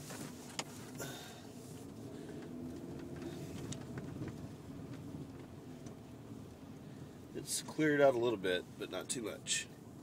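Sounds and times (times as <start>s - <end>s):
car engine from inside cabin: 0.0s - 10.0s.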